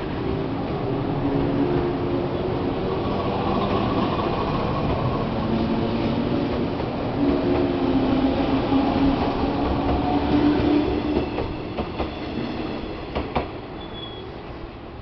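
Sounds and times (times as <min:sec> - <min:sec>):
train wheels rumbling: 0:00.0 - 0:14.6.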